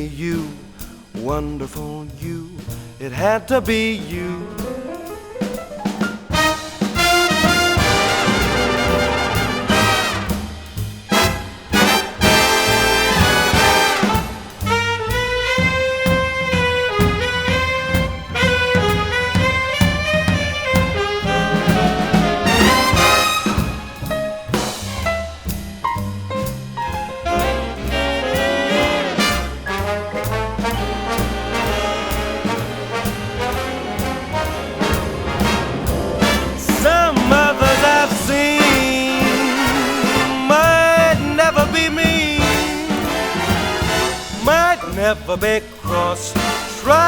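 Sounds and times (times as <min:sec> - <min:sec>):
drums keeping a steady beat: 0:00.0 - 0:47.0
walking bass: 0:00.0 - 0:47.0
brass playing melody: 0:04.1 - 0:25.5, 0:27.1 - 0:45.2, 0:45.9 - 0:47.0.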